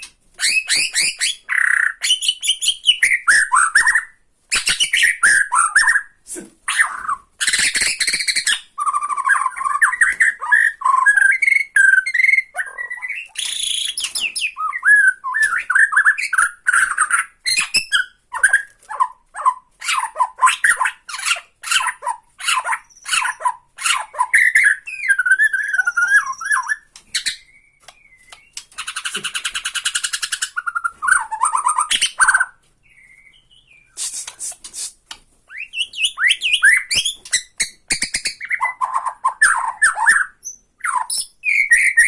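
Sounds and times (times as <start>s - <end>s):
songbird singing whistled phrases: 0.0s - 6.2s, 6.8s - 18.7s, 19.9s - 34.6s, 35.5s - 42.0s.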